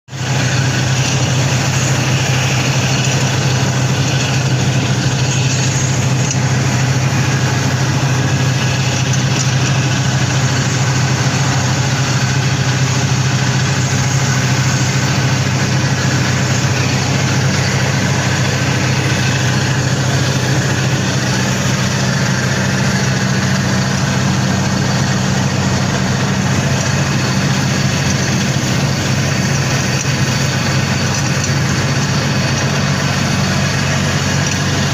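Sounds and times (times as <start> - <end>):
machine engine running steadily: 0.1 - 34.9.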